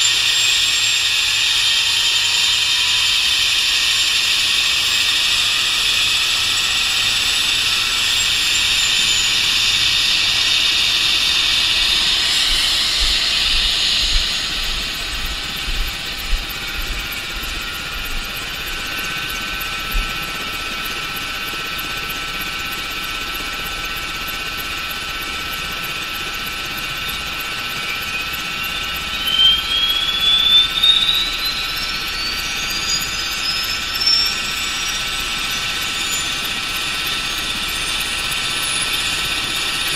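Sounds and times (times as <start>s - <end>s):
helicopter turbine engines whining: 0.0s - 39.9s.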